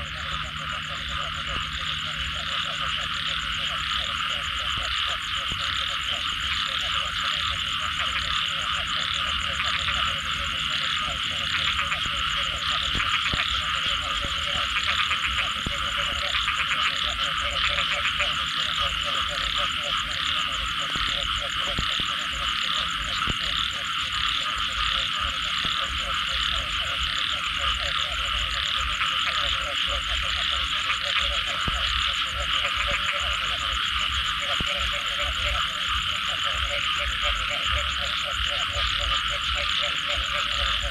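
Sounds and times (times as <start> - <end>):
frogs croaking: 0.0 - 40.9
high frog trill: 0.0 - 40.9.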